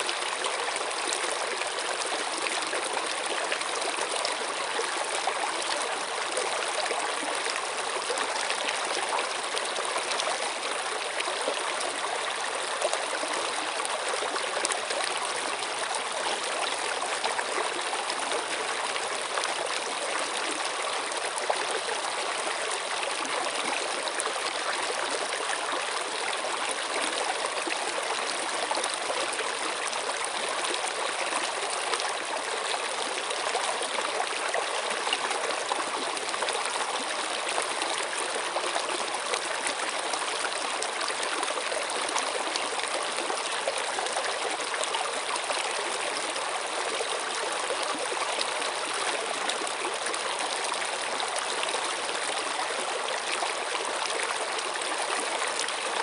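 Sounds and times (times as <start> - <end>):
stream water flowing and trickling: 0.0 - 56.0.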